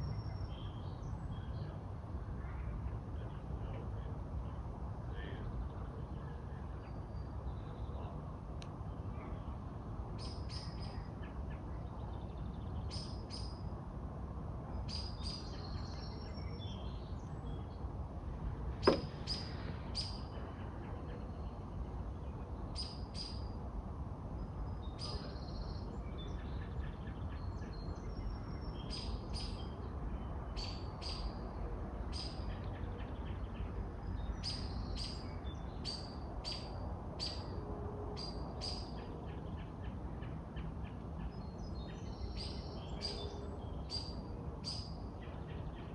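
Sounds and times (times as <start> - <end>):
songbirds chirping: 0.0 - 37.6, 38.2 - 45.9.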